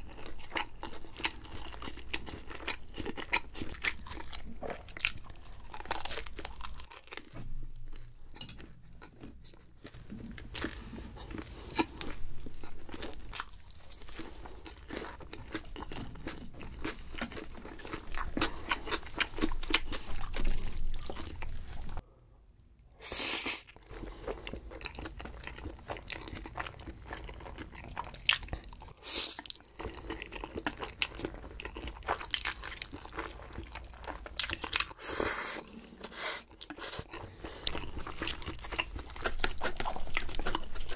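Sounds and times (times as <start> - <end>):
chewing crunchy pizza: 0.0 - 22.0, 23.7 - 40.9.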